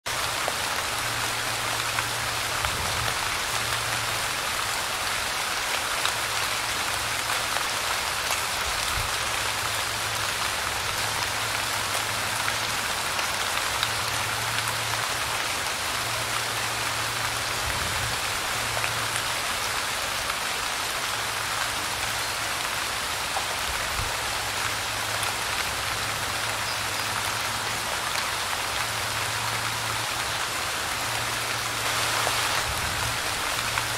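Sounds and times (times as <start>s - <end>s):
light rain falling: 0.0s - 33.9s.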